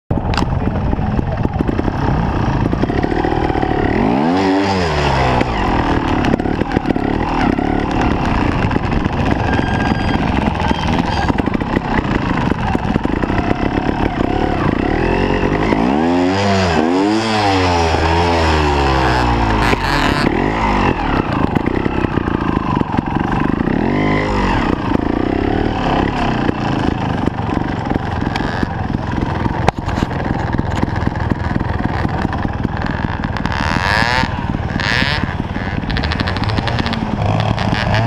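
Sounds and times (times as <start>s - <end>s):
motorcycle engine revving: 0.1s - 38.0s.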